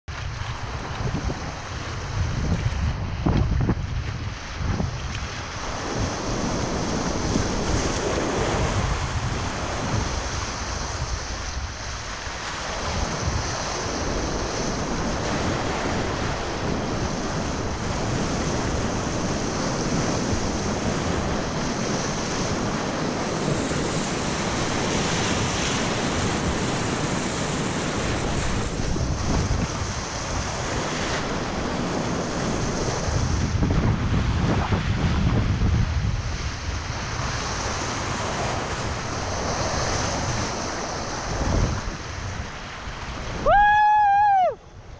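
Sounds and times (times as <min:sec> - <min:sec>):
wind buffeting microphone: 0:00.1 - 0:44.9.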